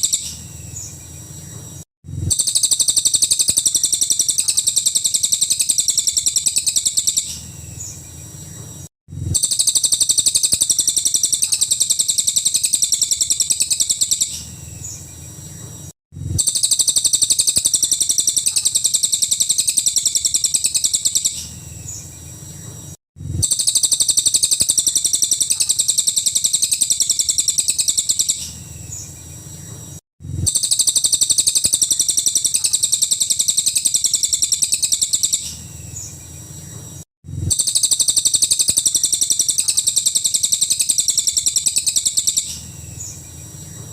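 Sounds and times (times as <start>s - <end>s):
bird song rapid sharp notes: 0.0s - 43.9s.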